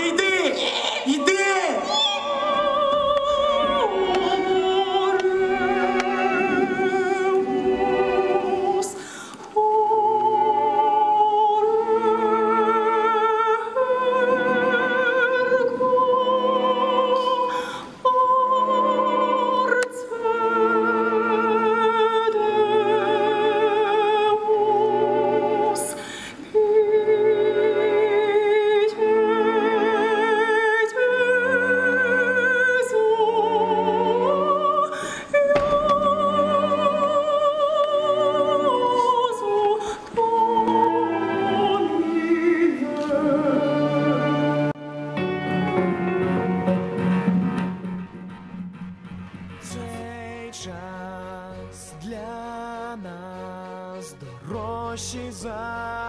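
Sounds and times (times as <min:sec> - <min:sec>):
high solo opera voice singing: 0:00.0 - 0:47.0.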